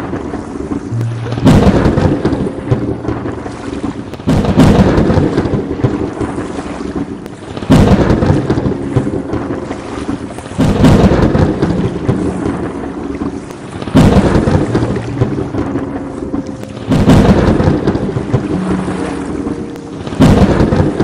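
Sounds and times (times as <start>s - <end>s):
steady rain: 0.0s - 21.0s
thunderclaps rumbling: 0.0s - 21.0s.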